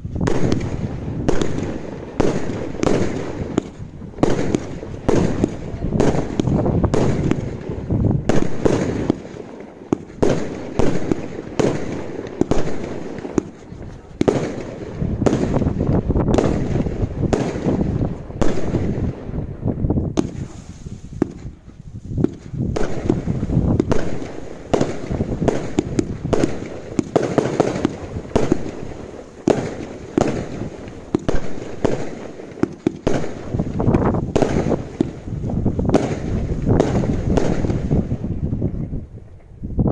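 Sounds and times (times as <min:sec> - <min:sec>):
fireworks banging: 0:00.0 - 0:39.6.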